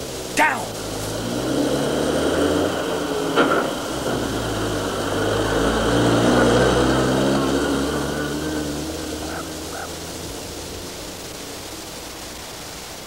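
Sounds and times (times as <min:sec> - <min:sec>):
vehicle engine passing: 0:00.0 - 0:12.7.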